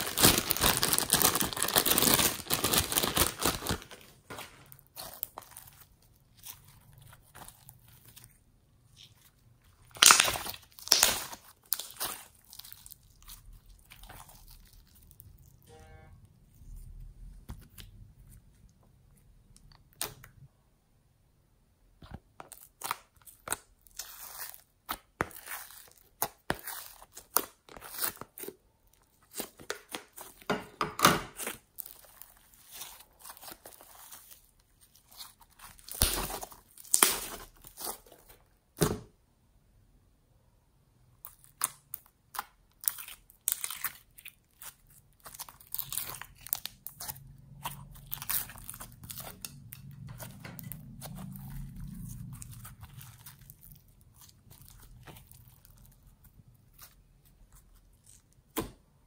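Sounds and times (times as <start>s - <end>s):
slime squelching and crackling: 0.0s - 15.7s, 22.0s - 30.5s, 31.3s - 38.8s, 41.2s - 59.0s.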